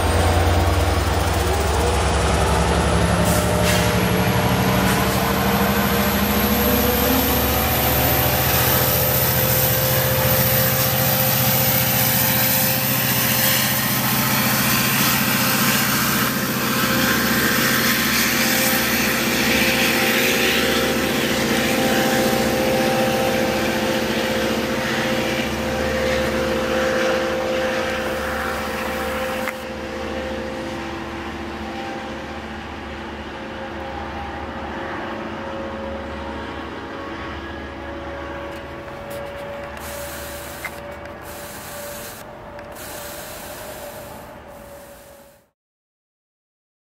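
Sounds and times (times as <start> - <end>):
diesel locomotive engine running: 0.0 - 45.5.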